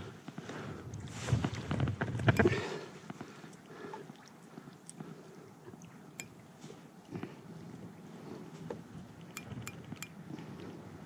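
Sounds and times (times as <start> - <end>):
water lapping against kayak hull: 0.4 - 11.0.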